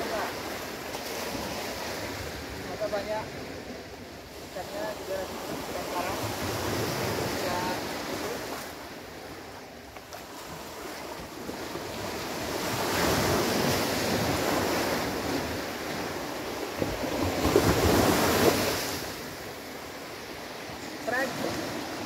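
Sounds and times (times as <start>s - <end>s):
sea waves breaking on beach: 0.0s - 22.0s.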